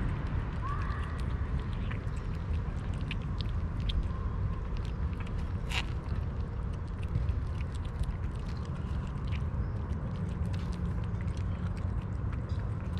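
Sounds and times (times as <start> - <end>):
kittens chewing and lapping food: 0.0 - 12.9
steady low rumble: 0.0 - 12.9.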